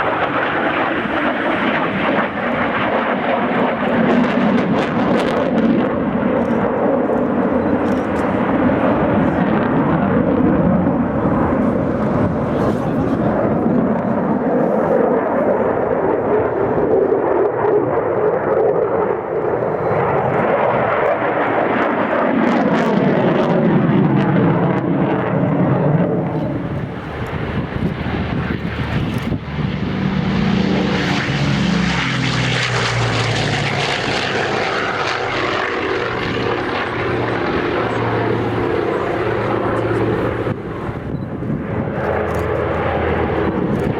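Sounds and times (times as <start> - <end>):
plane flying past: 0.0 - 43.9.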